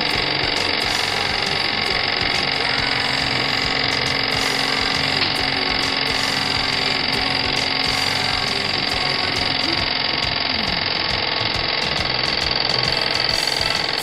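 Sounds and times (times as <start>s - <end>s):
low hum: 0.0s - 14.0s
toy steam engine whirring: 0.0s - 14.0s.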